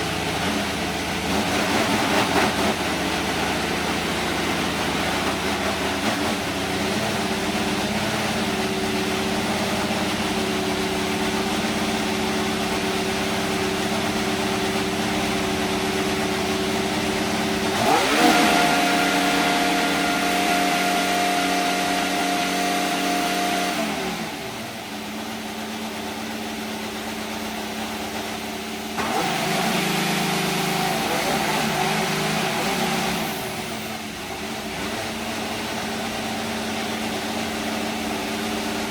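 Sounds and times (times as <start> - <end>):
race car engine idling and revving: 0.0 - 38.9.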